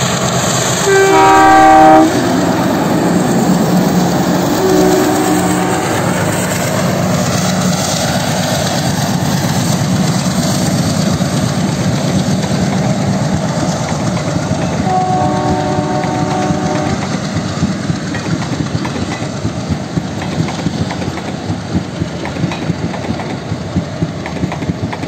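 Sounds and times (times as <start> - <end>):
diesel locomotive engine drone: 0.0 - 25.0
train coaches rattling on rails: 0.0 - 25.0.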